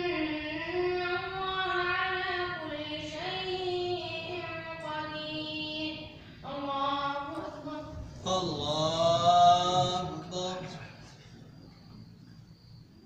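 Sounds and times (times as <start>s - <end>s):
boy chanting melodic recitation: 0.0s - 11.3s.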